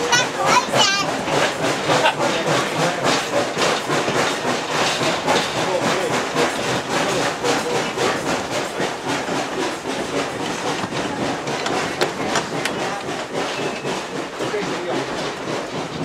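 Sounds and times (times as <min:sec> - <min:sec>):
train wheels clattering: 0:00.0 - 0:16.0.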